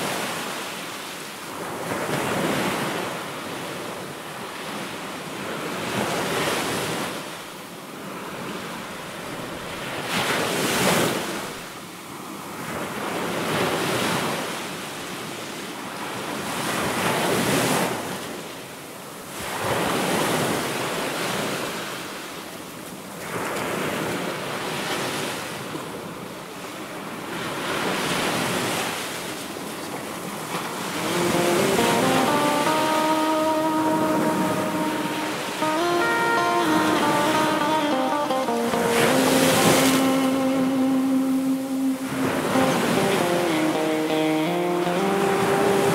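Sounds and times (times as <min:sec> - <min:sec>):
waves breaking and washing in: 0:00.0 - 0:45.9.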